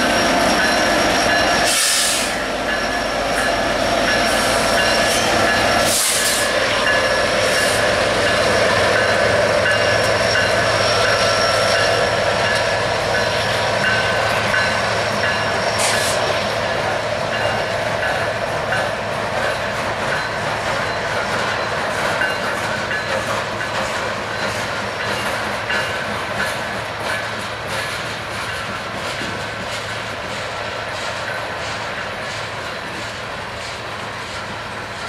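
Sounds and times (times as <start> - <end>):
freight train rumbling: 0.0 - 35.0.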